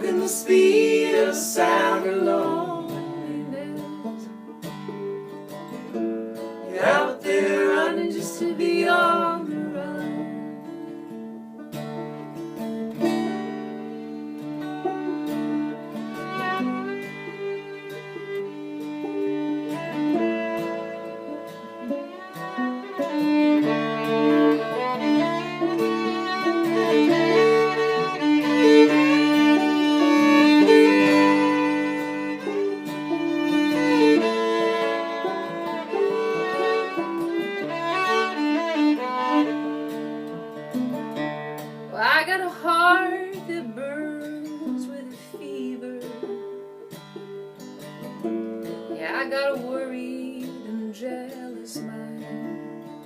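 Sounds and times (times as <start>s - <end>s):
fiddle playing sliding melody: 0.0s - 44.1s
acoustic guitar accompaniment: 0.0s - 53.0s.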